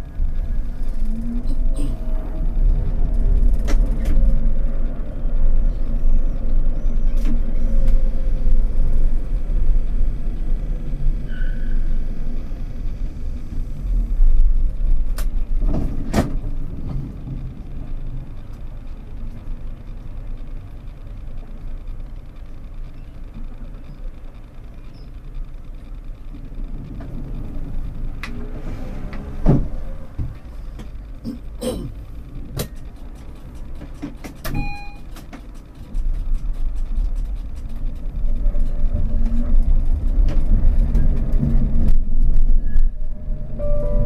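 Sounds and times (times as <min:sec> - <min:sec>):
tram low hum: 0:00.0 - 0:44.0
tram motor and wheel rumble: 0:00.0 - 0:44.0.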